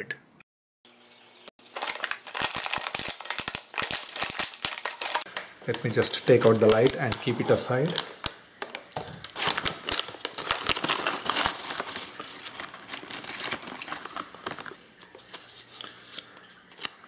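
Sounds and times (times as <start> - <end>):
plastic packaging crinkling: 1.6 - 17.0.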